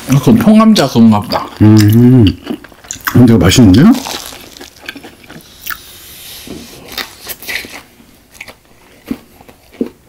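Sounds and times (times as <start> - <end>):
crunchy biting and chewing: 1.5 - 10.0.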